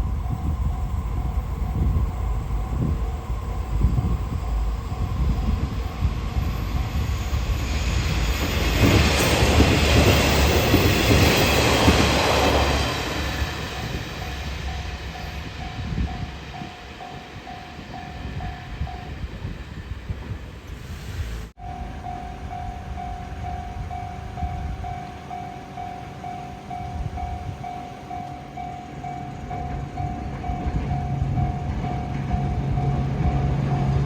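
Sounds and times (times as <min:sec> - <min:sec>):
level-crossing warning bell: 0:00.0 - 0:19.9, 0:21.6 - 0:34.0
diesel railcar passing: 0:00.0 - 0:34.0.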